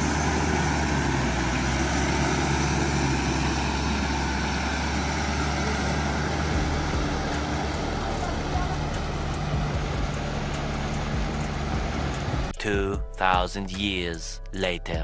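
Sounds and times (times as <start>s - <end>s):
vehicle engine droning: 0.0s - 12.6s.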